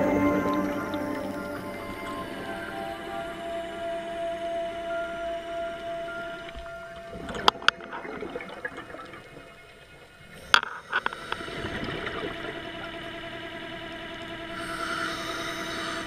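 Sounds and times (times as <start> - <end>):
faint steady hum: 0.0 - 16.0
underwater bubbling: 0.0 - 16.0.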